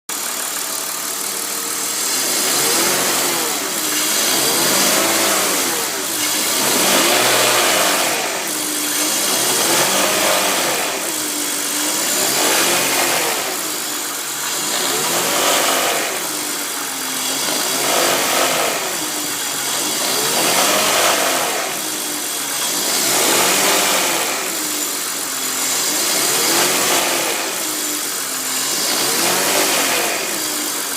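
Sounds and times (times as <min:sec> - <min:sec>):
car engine revving: 0:00.2 - 0:30.9.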